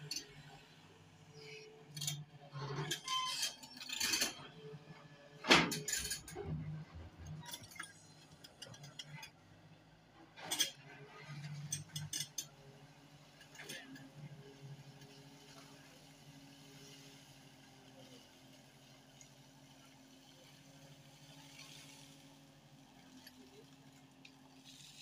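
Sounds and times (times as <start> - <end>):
excavator engine hum: 0.0 - 25.0.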